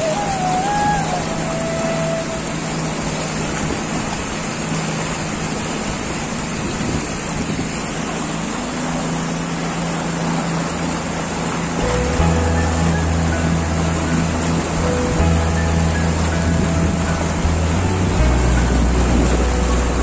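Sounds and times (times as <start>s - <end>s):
outboard motor running: 0.0s - 20.0s
water rushing: 0.0s - 20.0s
wind: 0.0s - 20.0s.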